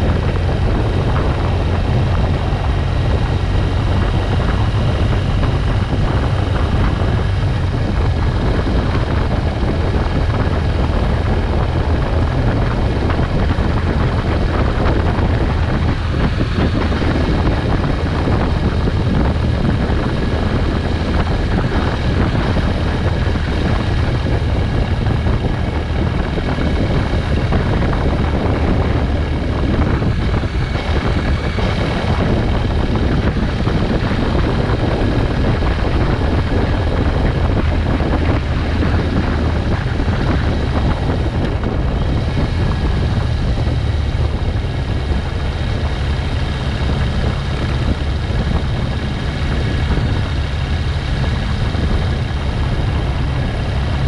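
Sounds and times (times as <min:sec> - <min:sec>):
motorcycle engine drone: 0:00.0 - 0:54.0
wind noise on microphone: 0:00.0 - 0:54.0.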